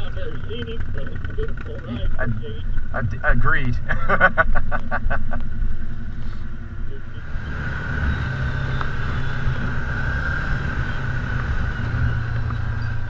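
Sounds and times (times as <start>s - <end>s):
engine drone while driving: 0.0s - 13.0s
engines idling: 0.0s - 13.0s.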